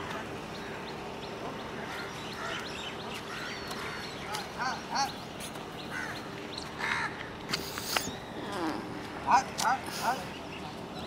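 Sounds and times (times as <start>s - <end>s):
birds chirping and squawking: 0.1s - 11.0s.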